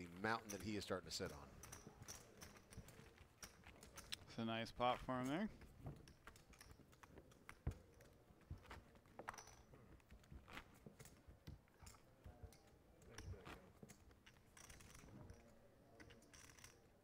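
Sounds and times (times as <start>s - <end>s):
clay poker chips clicking: 0.4s - 4.3s, 5.6s - 17.0s.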